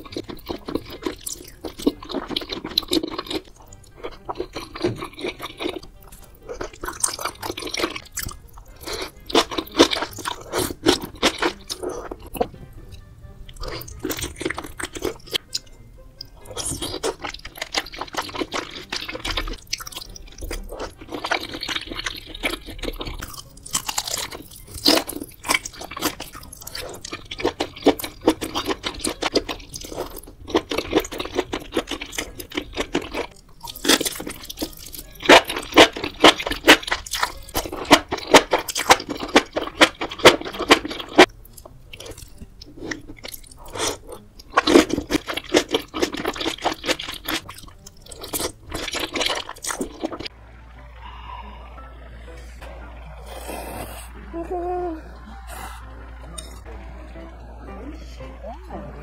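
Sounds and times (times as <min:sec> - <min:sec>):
person biting and chewing: 0:00.0 - 0:12.6, 0:13.5 - 0:50.4.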